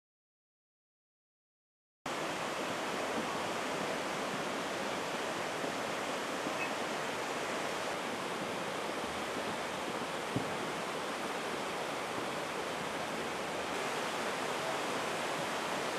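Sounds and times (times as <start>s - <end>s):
flooded river rushing: 2.1s - 15.9s.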